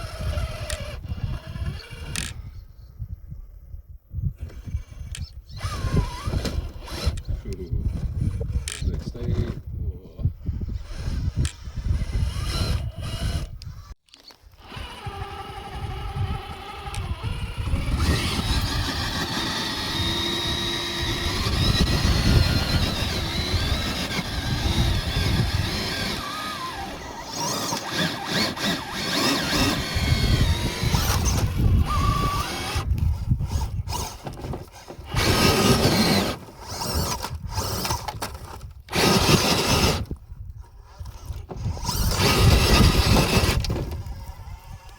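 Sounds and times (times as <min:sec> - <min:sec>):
rc truck drivetrain whining: 0:00.0 - 0:02.6, 0:04.3 - 0:09.6, 0:10.5 - 0:44.9.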